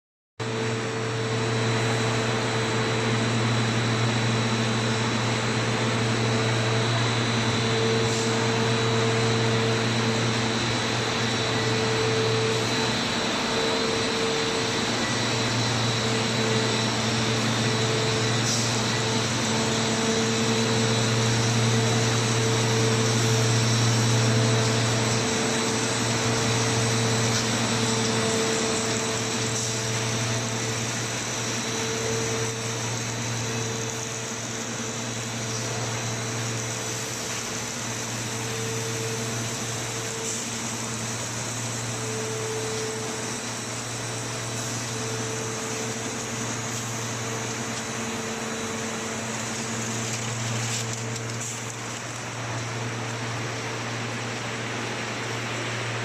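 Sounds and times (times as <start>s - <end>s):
machinery hum with constant tones: 0.4s - 56.0s
whirring hiss: 0.4s - 56.0s.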